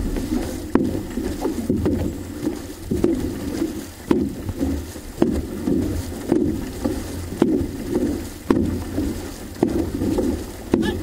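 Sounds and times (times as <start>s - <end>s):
paddle blades clicking: 0.0s - 11.0s
paddle splash and water rush: 0.0s - 11.0s.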